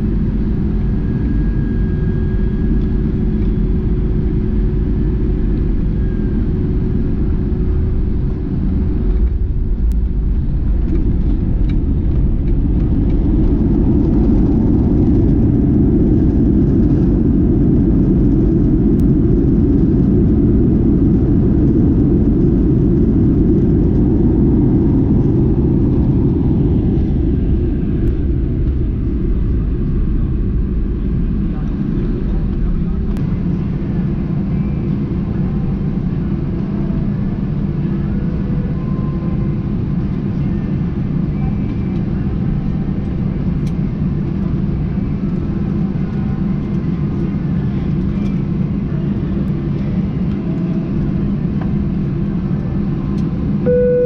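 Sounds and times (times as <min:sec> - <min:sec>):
faint hum: 0:00.0 - 0:54.0
jet engines rumbling: 0:00.0 - 0:54.0.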